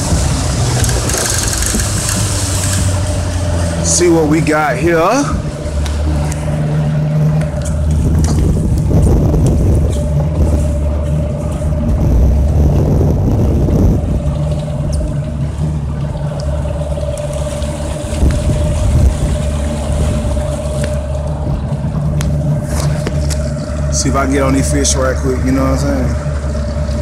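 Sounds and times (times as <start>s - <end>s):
wind noise on microphone: 0.0s - 3.8s, 5.3s - 16.8s, 17.4s - 24.1s
boat motor running: 0.0s - 27.0s.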